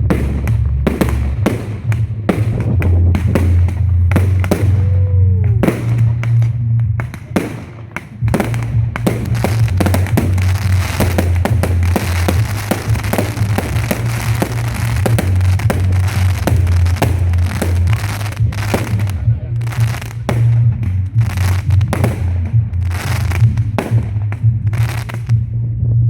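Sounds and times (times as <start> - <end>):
fireworks crackling: 0.0 - 25.4
fireworks bangs: 0.0 - 25.5
music with heavy bass: 0.0 - 26.0.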